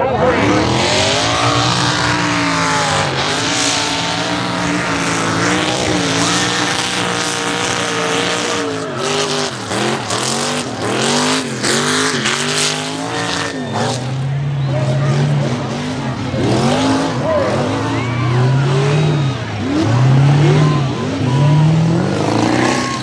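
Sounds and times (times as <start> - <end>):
diesel engine revving: 0.0 - 23.0.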